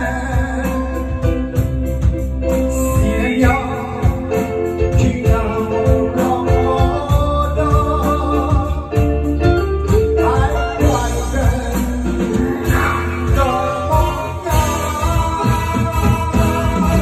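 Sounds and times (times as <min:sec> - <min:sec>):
amplified backing music: 0:00.0 - 0:17.0
man singing into a microphone: 0:00.0 - 0:17.0.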